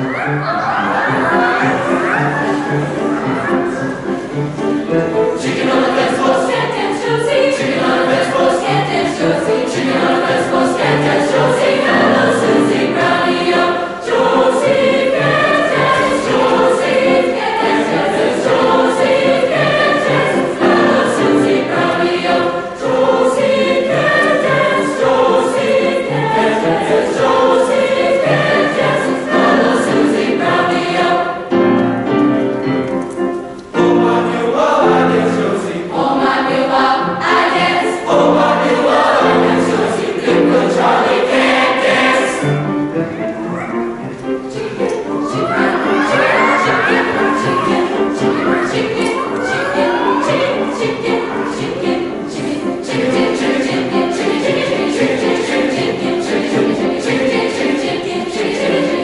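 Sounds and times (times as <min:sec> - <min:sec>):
mixed choir singing: 0:00.0 - 0:32.8, 0:33.7 - 0:43.2, 0:43.9 - 0:59.0
piano accompaniment: 0:00.0 - 0:59.0.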